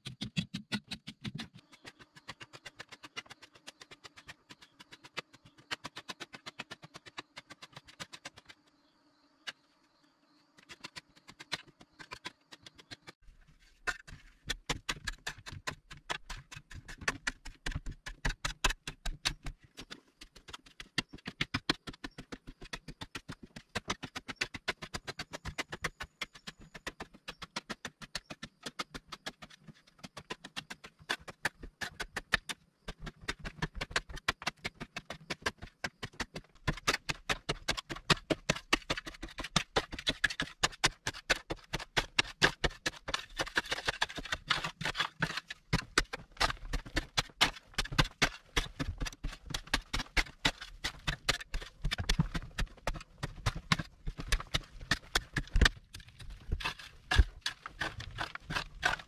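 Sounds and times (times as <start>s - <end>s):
digging tool chopping dry earth: 0.0s - 8.6s, 10.5s - 13.2s, 13.8s - 59.0s.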